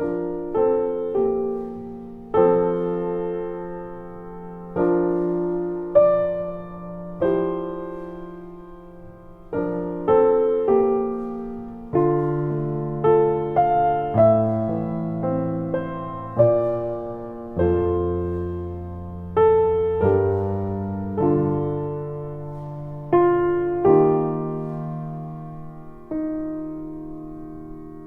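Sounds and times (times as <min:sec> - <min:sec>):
slow gentle piano: 0:00.0 - 0:28.0.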